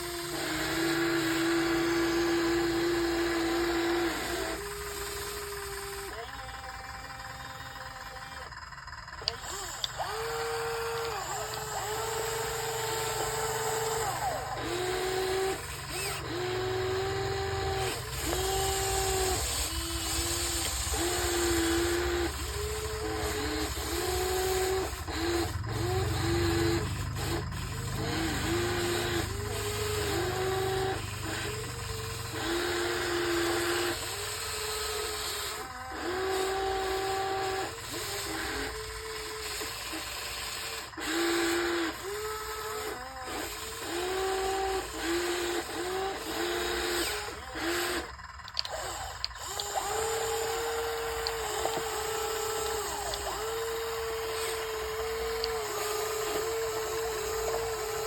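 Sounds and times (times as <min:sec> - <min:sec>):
hydraulic pump whining in bursts: 0:00.0 - 0:58.0.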